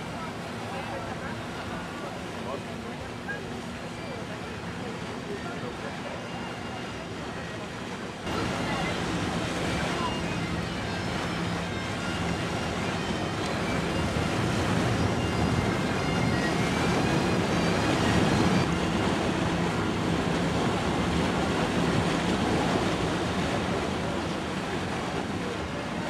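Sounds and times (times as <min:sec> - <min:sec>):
boat engine droning: 0:00.0 - 0:26.0
water wash: 0:00.0 - 0:26.0.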